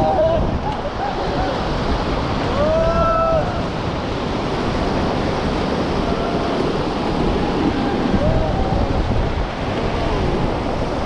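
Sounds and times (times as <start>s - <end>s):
roar of rushing river water: 0.0s - 11.0s
wind buffeting microphone: 0.0s - 11.0s.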